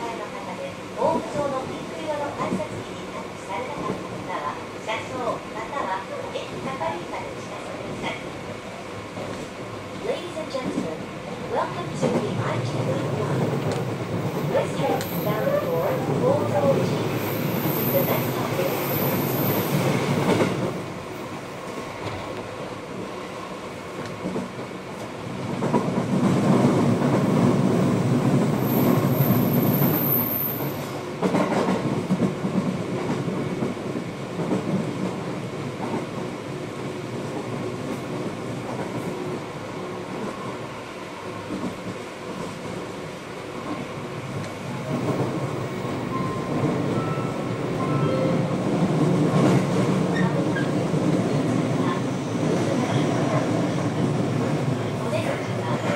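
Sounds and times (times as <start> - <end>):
train wheels rumbling on rails: 5.8 - 55.9.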